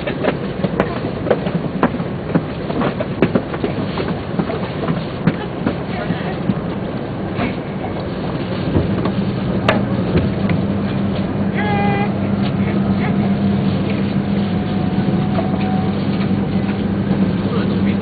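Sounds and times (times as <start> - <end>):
train motors humming: 0.0 - 18.0.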